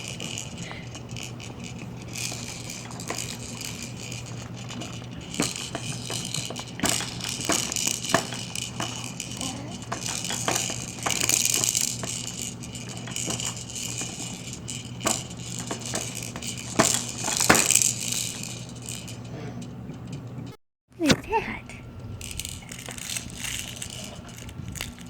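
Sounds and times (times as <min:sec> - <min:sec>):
plastic toys rattling and clicking: 0:00.0 - 0:21.5, 0:22.1 - 0:25.0.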